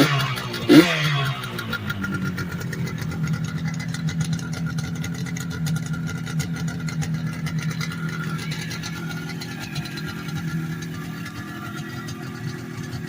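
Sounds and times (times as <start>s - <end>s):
two-stroke motorcycle engine idling: 0.0s - 13.0s.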